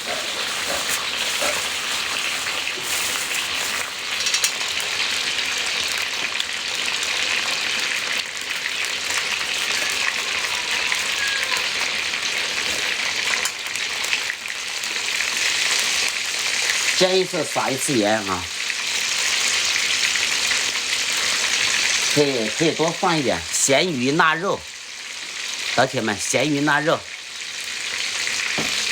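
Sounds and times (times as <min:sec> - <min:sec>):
food sizzling in a pan: 0:00.0 - 0:28.9.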